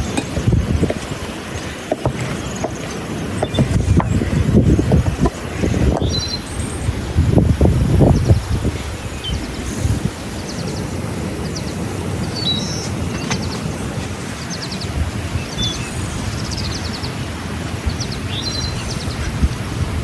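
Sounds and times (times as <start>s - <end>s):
small birds chirping: 0.0s - 7.1s, 8.0s - 19.8s.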